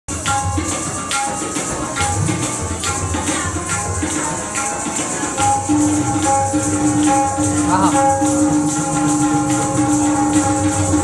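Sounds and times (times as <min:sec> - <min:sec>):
tabla rhythm: 0:00.1 - 0:11.0
harmonium melody: 0:00.2 - 0:11.0.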